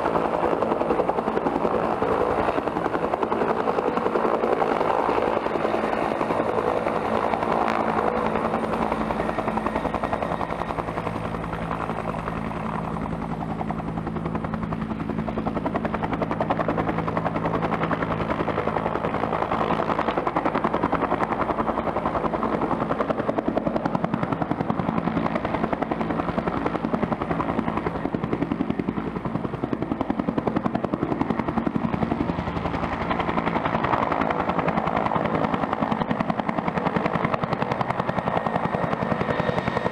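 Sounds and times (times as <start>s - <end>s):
helicopter turbine whine and rotor beat: 0.0s - 39.9s.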